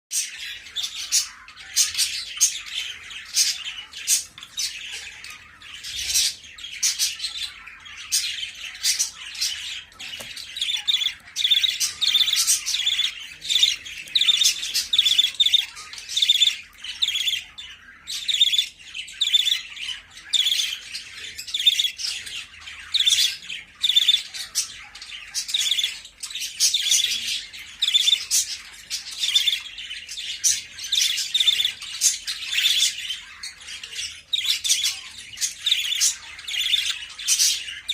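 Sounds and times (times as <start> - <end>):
budgerigars chirping and squawking: 0.1 - 37.9.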